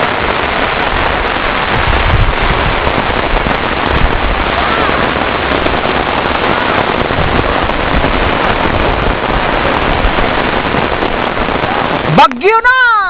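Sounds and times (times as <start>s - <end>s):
heavy rain on an umbrella: 0.0s - 13.0s.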